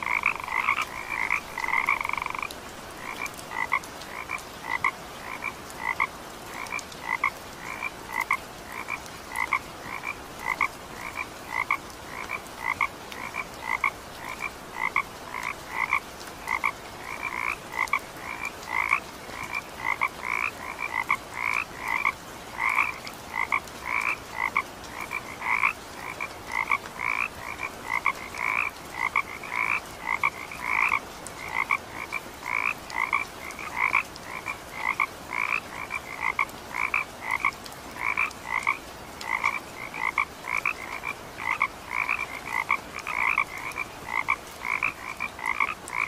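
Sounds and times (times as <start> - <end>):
frogs croaking: 0.0 - 46.0.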